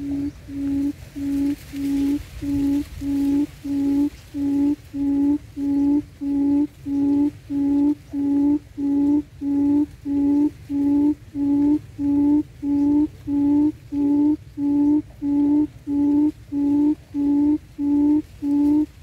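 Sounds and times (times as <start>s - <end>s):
low hooting bird call: 0.0s - 19.0s.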